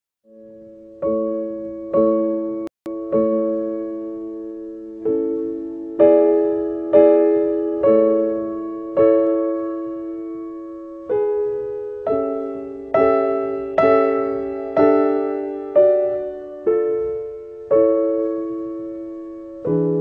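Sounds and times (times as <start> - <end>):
slow solo piano chords: 0.3 - 20.0.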